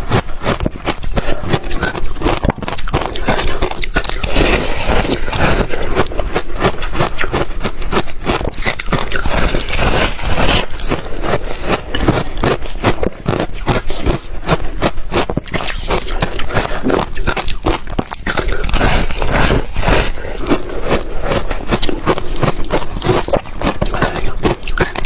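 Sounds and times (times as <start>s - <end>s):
ice crunching being chewed: 0.0s - 25.0s.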